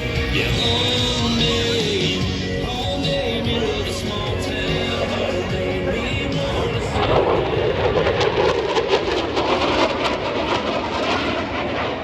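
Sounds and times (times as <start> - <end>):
fighter jet roaring past: 0.0 - 12.0.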